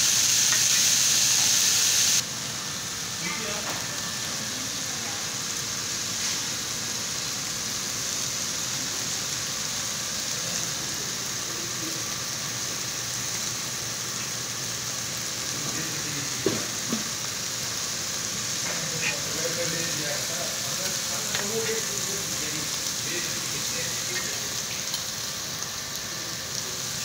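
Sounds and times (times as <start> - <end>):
meat sizzling on a griddle: 0.0 - 27.0.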